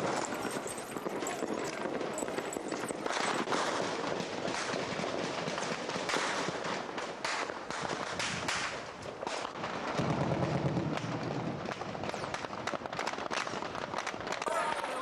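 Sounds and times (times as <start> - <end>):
gunshots cracking: 0.0 - 14.2.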